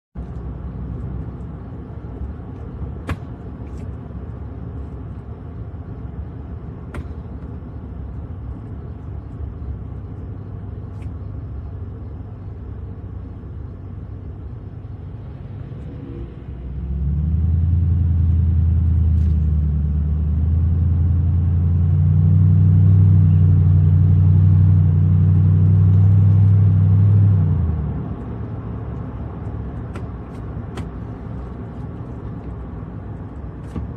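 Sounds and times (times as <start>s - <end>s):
vehicle engine drone: 0.2s - 33.9s.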